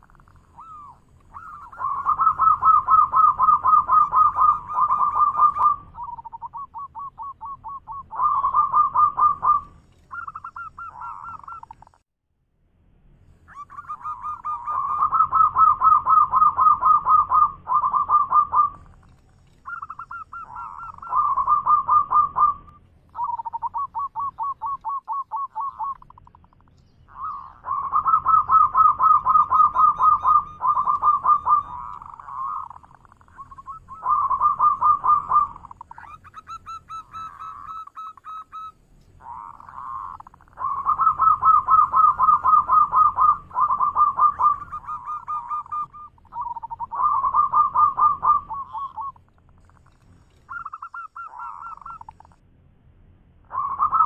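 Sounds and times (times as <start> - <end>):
dove trilling coos: 0.0 - 12.0, 13.4 - 52.4, 53.4 - 54.0.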